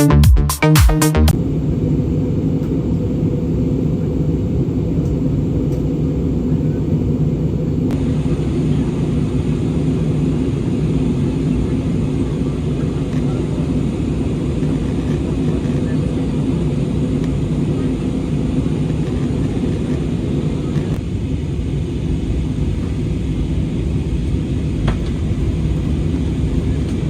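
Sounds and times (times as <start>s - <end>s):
airliner engines droning: 1.3s - 27.0s.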